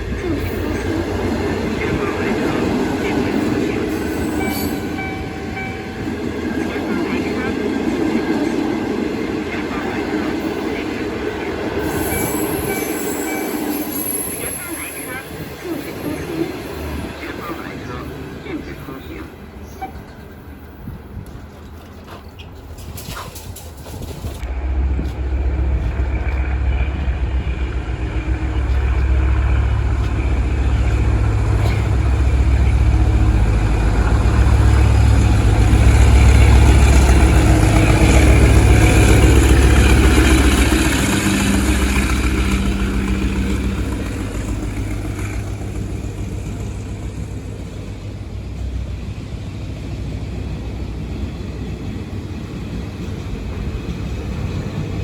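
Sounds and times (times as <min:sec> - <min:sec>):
diesel locomotive passing: 0:00.0 - 0:55.0.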